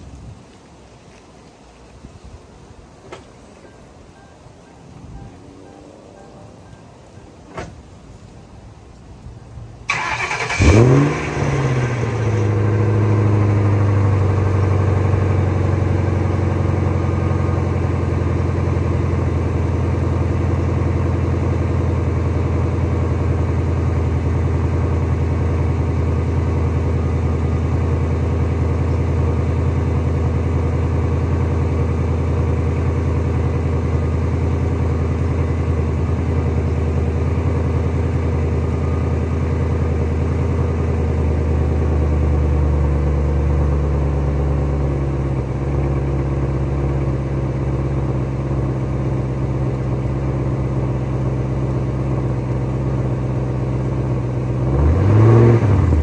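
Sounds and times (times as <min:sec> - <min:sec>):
car engine idling: 0:03.4 - 0:56.0.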